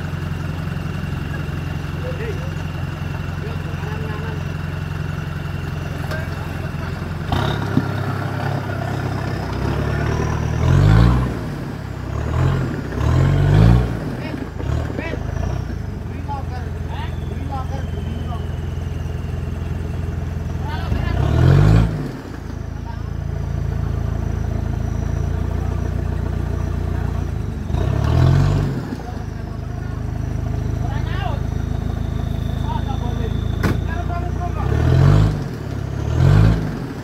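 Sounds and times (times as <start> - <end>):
off-road vehicle engine revving: 0.0 - 37.0.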